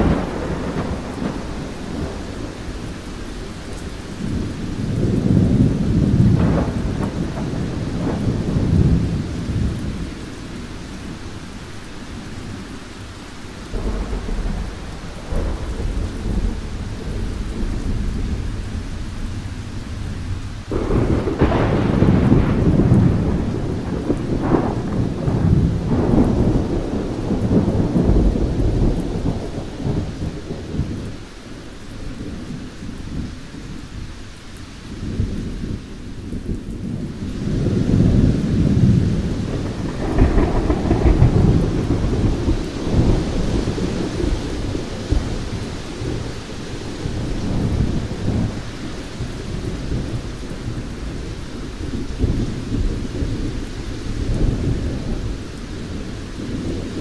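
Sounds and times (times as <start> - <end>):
rolling thunder: 0.0 - 12.7, 13.6 - 34.2, 34.9 - 57.0
steady rain: 0.0 - 57.0.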